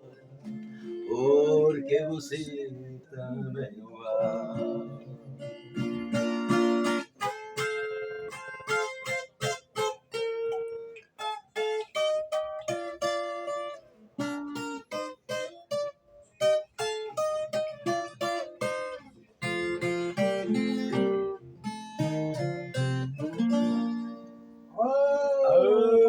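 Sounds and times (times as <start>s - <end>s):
viola picked melody and strummed chords: 0.0s - 2.1s, 3.2s - 24.8s.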